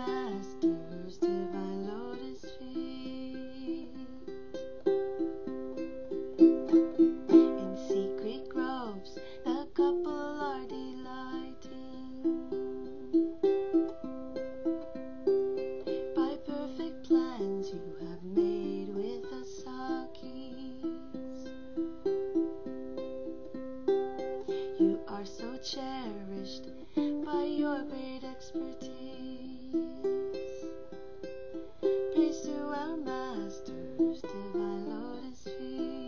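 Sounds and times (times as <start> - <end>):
woman singing: 0.0 - 13.2, 15.6 - 21.8, 24.2 - 36.0
ukulele strumming chords: 0.0 - 36.0.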